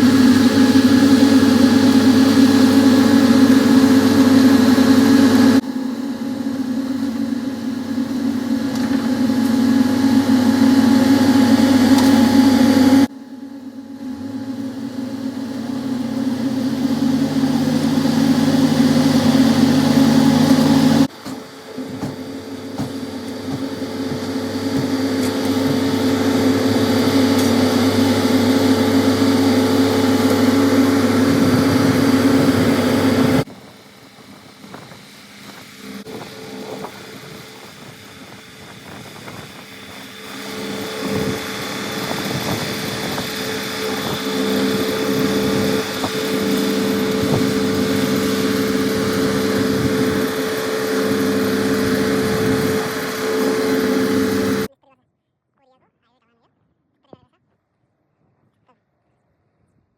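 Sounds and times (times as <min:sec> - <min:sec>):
heavy machinery engines running: 0:00.0 - 0:54.7.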